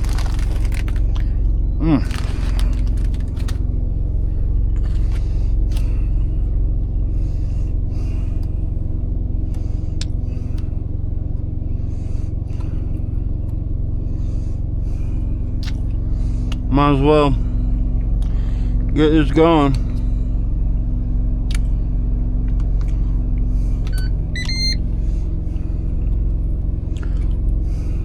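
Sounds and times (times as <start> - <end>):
small diesel engine droning: 0.0 - 28.0.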